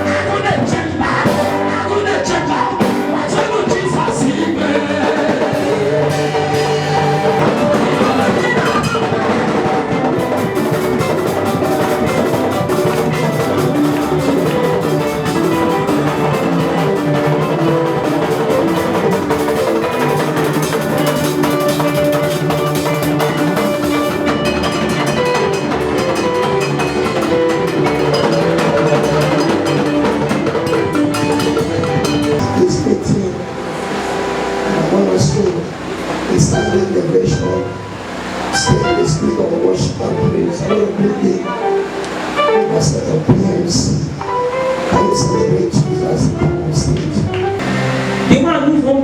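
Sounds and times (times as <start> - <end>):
drum kit rimshots: 0.0 - 48.6
keyboard chords: 0.0 - 49.0
live band playing: 0.0 - 49.0.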